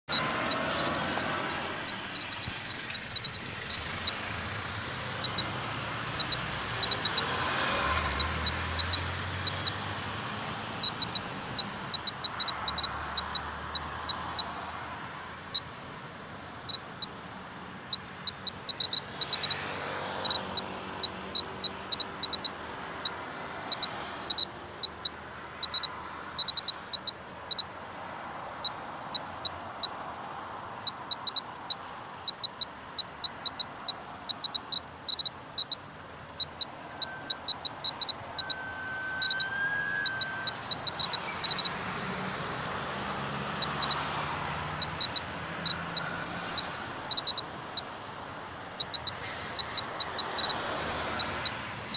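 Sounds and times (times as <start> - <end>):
radiation meter beeps: 0.0 - 4.3, 5.2 - 9.8, 10.8 - 14.5, 16.6 - 17.2, 17.9 - 27.7, 28.6 - 30.0, 30.8 - 41.8, 43.6 - 44.1, 44.8 - 47.9, 48.8 - 51.6
traffic hum: 0.0 - 51.9
vehicle passing: 0.1 - 15.6, 16.6 - 35.8, 36.4 - 47.4.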